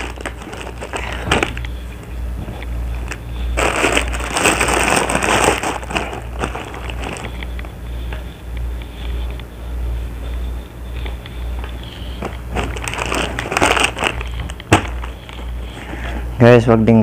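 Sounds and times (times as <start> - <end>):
clothes and plastic packets rustling: 0.0 - 8.2, 10.8 - 16.4
low steady hum: 0.0 - 17.0.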